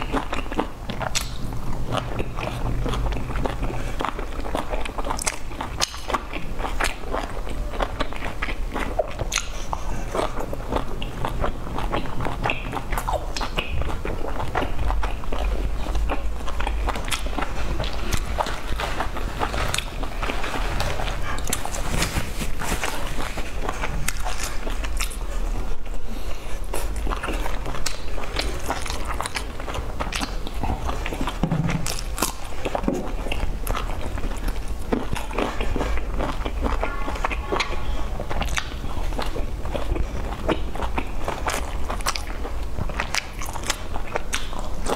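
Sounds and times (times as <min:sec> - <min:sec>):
wet chewing smacks: 0:00.0 - 0:44.9.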